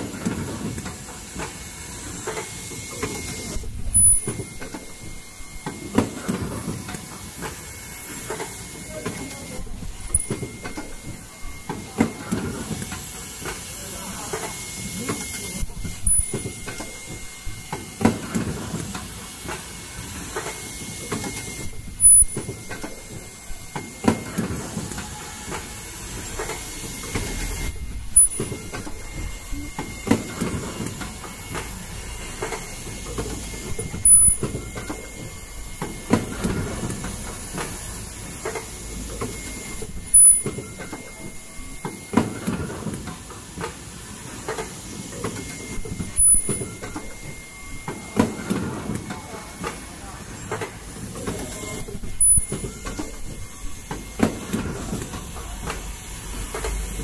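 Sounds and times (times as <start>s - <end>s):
conveyor clatter and hiss: 0.0s - 57.0s
machine mechanical hum: 0.0s - 57.0s.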